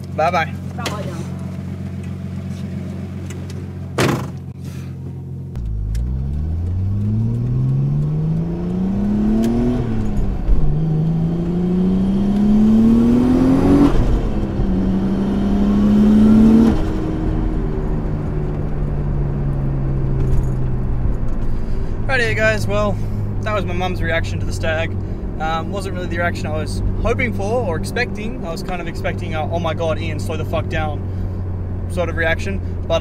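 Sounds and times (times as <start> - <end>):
car engine idling and accelerating: 0.0 - 33.0.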